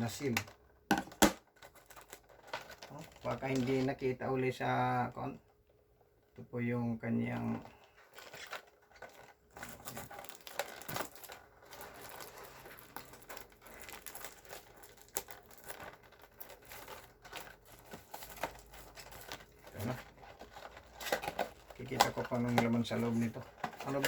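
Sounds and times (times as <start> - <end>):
packaging crinkling: 0.2 - 4.0, 7.3 - 24.0
small clicks and rustles: 1.4 - 4.1, 7.3 - 24.0.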